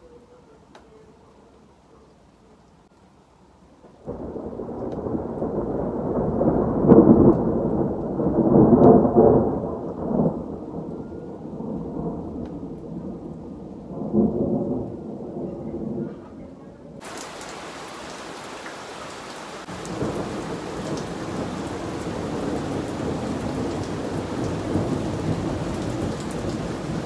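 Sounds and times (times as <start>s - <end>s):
thunder rumbling: 4.0s - 16.3s, 17.0s - 27.0s.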